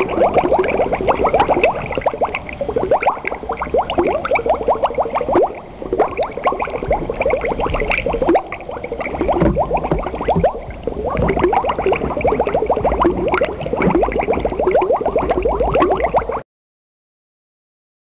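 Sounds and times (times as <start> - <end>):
low rumble: 0.0 - 16.3
water bubbling and gurgling: 0.0 - 16.4.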